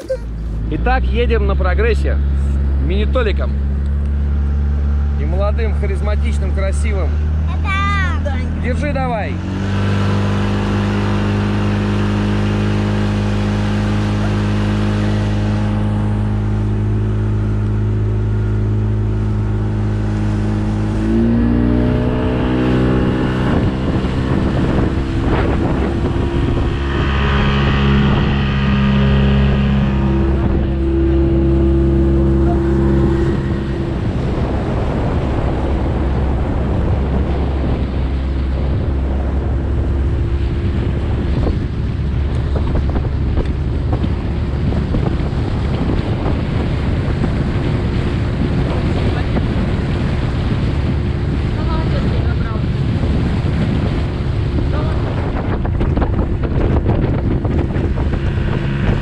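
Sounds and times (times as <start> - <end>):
outboard motor running: 0.0 - 59.0
rushing water and wind: 0.0 - 59.0.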